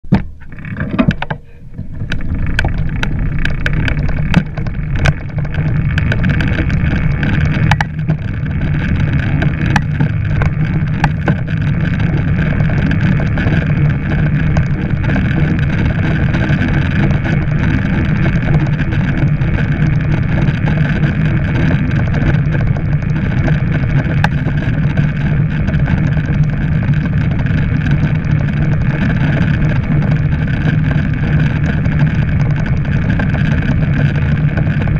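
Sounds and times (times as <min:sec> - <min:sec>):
sharp clicks and knocks: 0:00.0 - 0:34.9
steady hum: 0:00.0 - 0:34.9
tyres rolling on tarmac: 0:00.1 - 0:34.9
wind rushing over microphone: 0:00.1 - 0:34.9.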